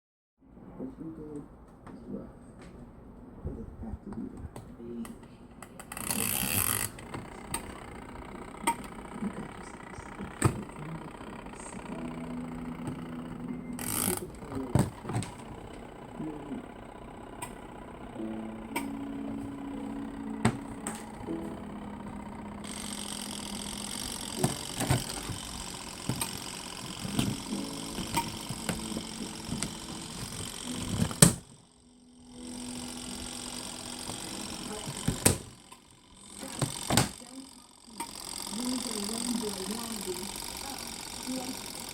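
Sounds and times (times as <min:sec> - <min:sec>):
low motor hum: 0:02.9 - 0:41.9
washing machine running: 0:05.7 - 0:41.9.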